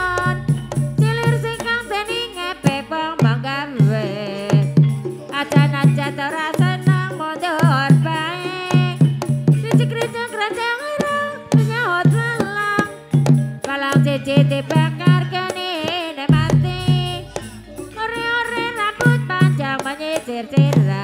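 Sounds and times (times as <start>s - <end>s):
person singing with vibrato: 0.0s - 21.0s
sharp hand-drum strokes: 0.0s - 21.0s.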